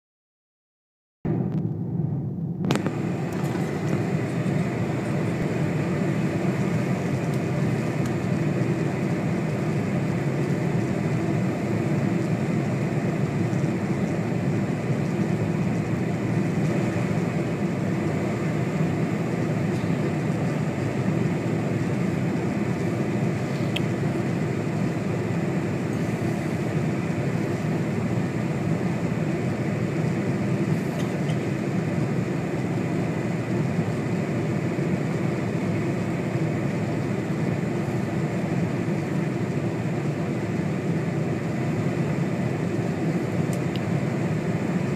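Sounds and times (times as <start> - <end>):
airplane cabin engine drone: 1.3 - 44.9.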